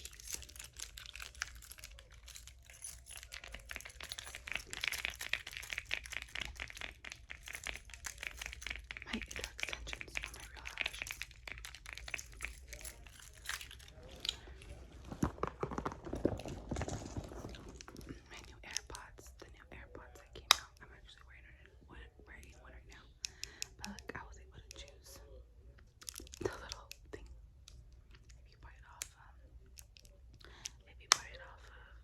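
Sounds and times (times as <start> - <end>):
crinkling: 0.0 - 21.8, 25.8 - 31.9.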